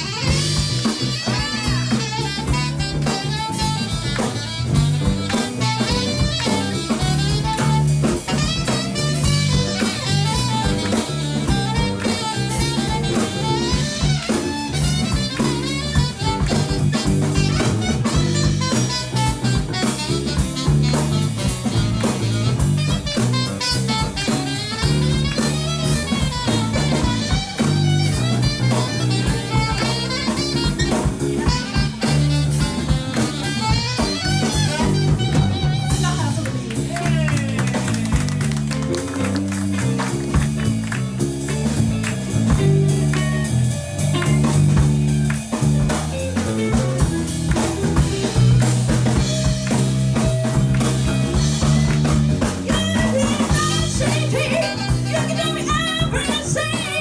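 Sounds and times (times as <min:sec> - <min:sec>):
drum kit: 0:00.0 - 0:57.0
live jazz band playing: 0:00.0 - 0:57.0
saxophone: 0:00.0 - 0:57.0.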